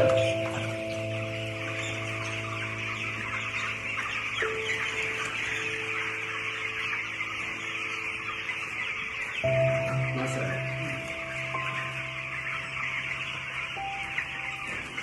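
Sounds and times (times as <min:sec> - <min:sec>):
chicks peeping: 0:00.0 - 0:15.0
music of long held chords: 0:00.0 - 0:15.0.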